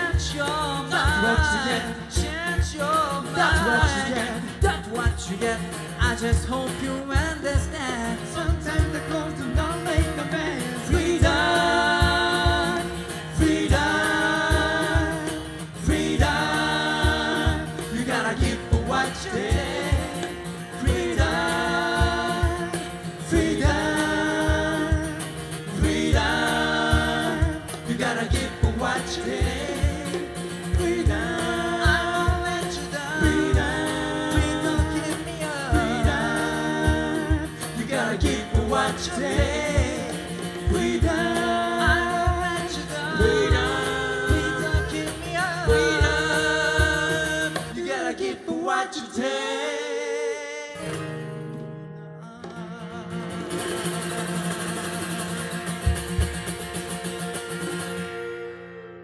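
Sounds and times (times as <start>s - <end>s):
percussion: 0.0s - 48.4s, 52.4s - 58.4s
male vocal group singing: 0.0s - 51.0s
acoustic guitar: 0.0s - 59.0s.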